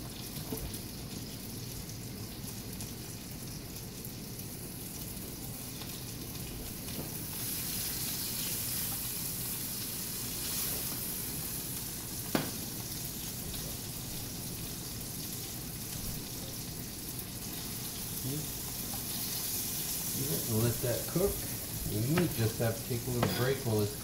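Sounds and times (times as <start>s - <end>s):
fish sizzling in frying pan: 0.0s - 24.0s.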